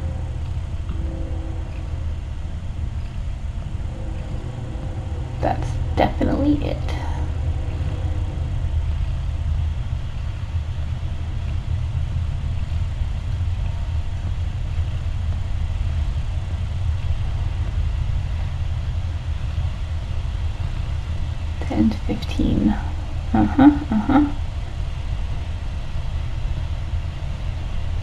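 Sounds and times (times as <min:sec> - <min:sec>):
low rumble or hum: 0:00.0 - 0:28.0.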